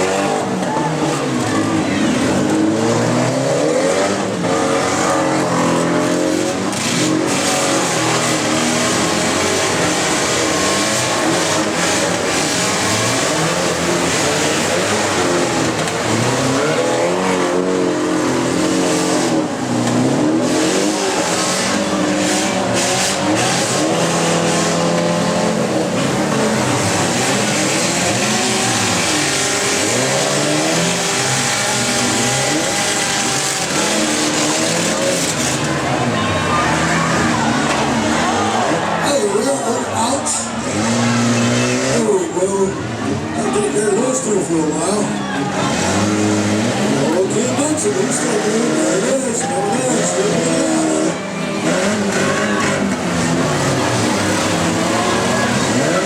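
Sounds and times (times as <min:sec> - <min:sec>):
cars crunching together: 0:00.0 - 0:56.0
engines revving: 0:00.0 - 0:56.0.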